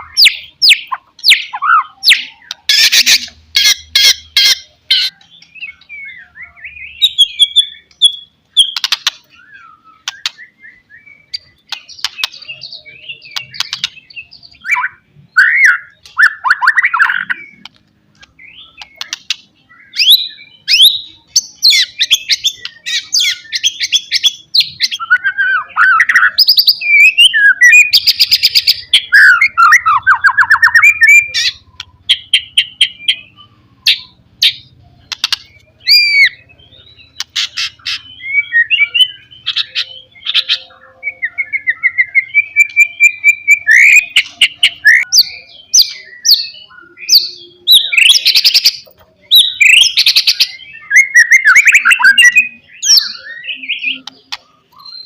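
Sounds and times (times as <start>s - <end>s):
bird singing whistles and trills: 0.0s - 55.0s.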